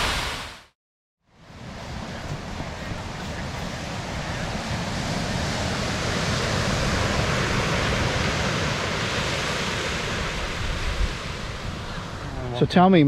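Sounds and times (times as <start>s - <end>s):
rushing water: 0.0s - 0.7s, 1.7s - 12.6s.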